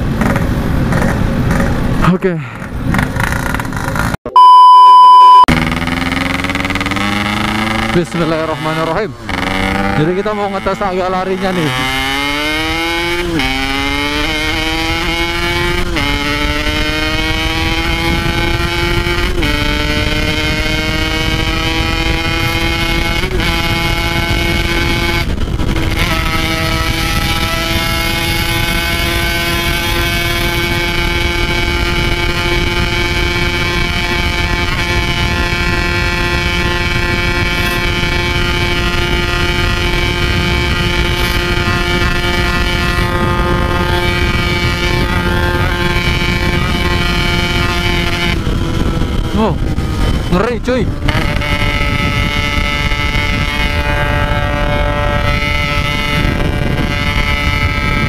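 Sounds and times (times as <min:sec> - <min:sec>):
two-stroke motorcycle engine accelerating: 0:00.0 - 0:04.2, 0:05.4 - 0:58.0.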